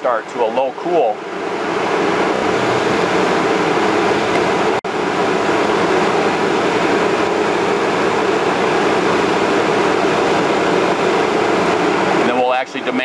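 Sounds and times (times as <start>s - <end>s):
air conditioner blowing air: 0.0s - 13.0s.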